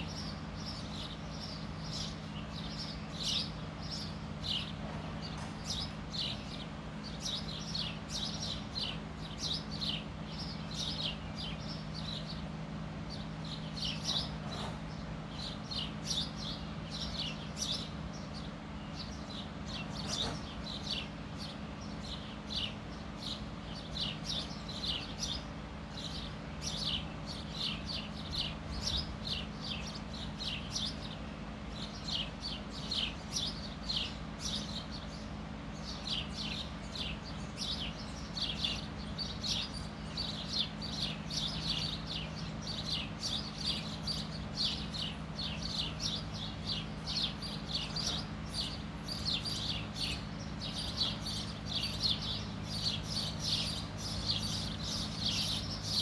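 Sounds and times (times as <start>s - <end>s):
birds chirping: 0.0s - 56.0s
constant low hum: 0.0s - 56.0s.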